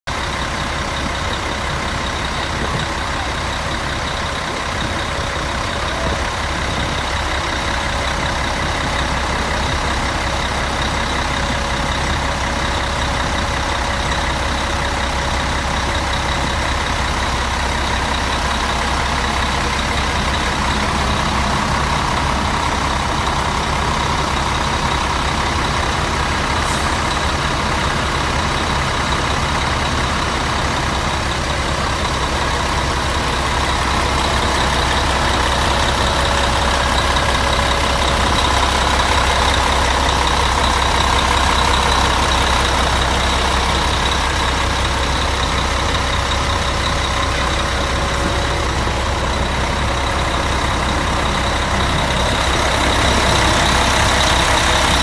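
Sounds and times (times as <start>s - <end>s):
diesel bus engine idling: 0.0s - 55.0s.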